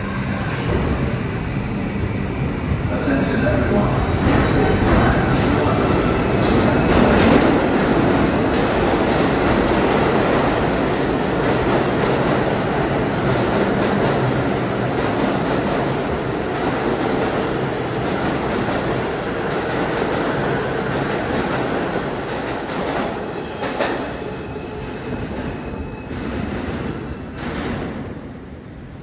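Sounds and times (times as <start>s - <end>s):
subway train wheels rumbling on rail: 0.0s - 29.0s.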